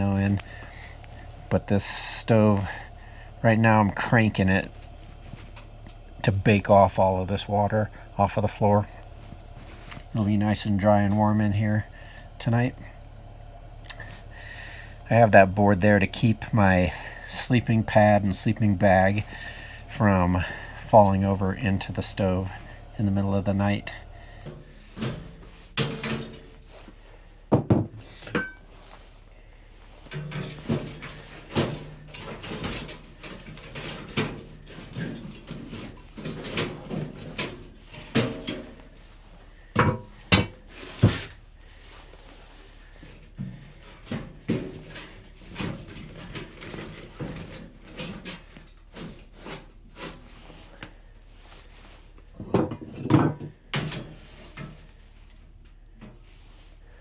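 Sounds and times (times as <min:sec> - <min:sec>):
knocks and clatter of handling things: 0:00.0 - 0:29.1, 0:29.8 - 0:56.3.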